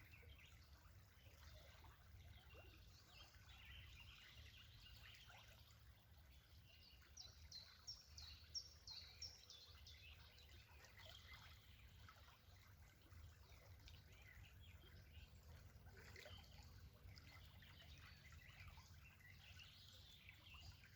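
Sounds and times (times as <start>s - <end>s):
songbird singing: 0.0s - 12.2s, 13.9s - 20.9s
low steady background rumble: 0.0s - 20.9s.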